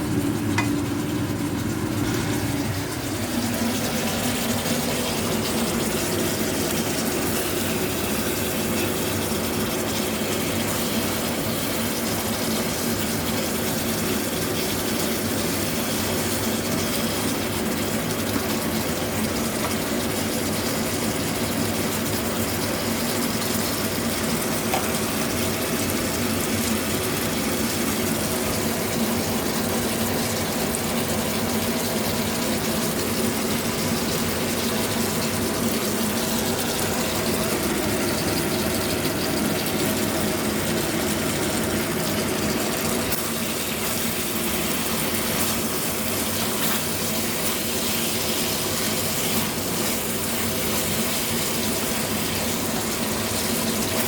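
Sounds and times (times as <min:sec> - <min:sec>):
pork chops frying in oil: 0:00.0 - 0:54.0.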